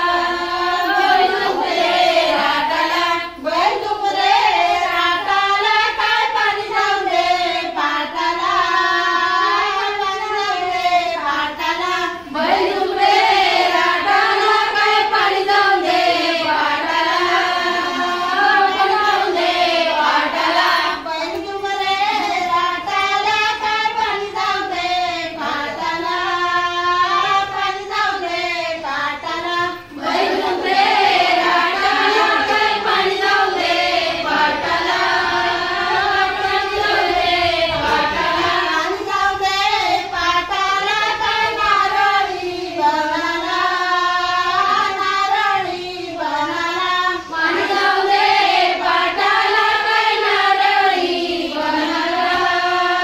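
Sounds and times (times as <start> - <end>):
women singing together: 0.0 - 53.0.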